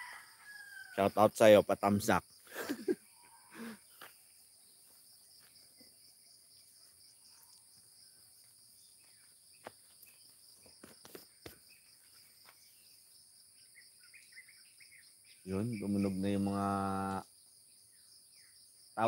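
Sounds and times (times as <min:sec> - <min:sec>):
insect trilling: 0:00.0 - 0:19.0.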